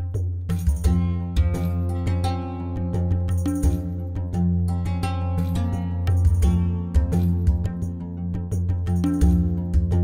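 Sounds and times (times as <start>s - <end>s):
plucked notes: 0.0s - 10.0s.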